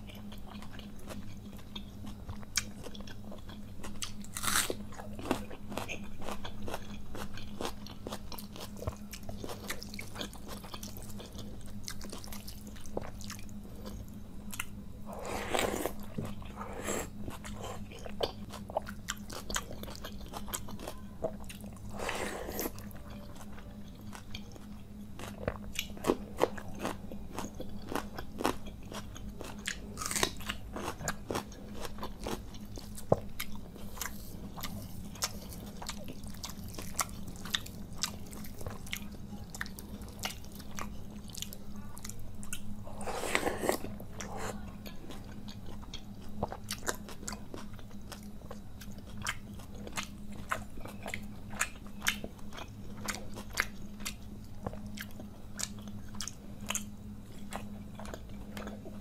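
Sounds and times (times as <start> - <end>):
faint low hum: 0.0 - 59.0
person chewing food: 0.0 - 59.0.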